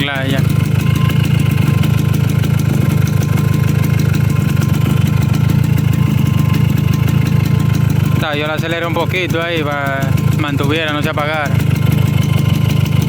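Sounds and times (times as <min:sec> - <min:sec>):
two-stroke motorcycle engine running: 0:00.0 - 0:13.0.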